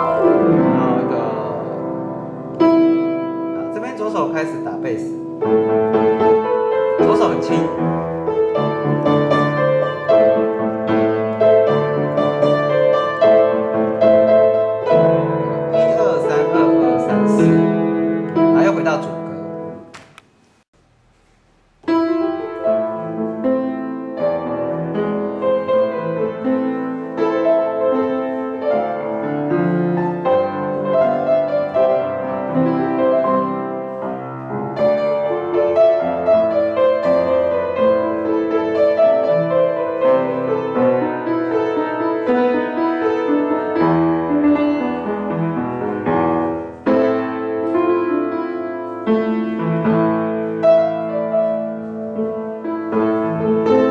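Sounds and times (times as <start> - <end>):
piano playing slow pop ballad: 0.0 - 20.0, 21.8 - 53.9.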